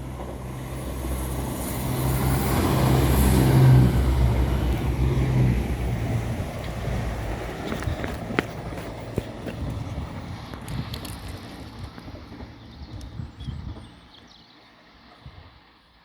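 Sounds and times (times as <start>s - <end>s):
diesel train rumbling past: 0.0s - 15.8s.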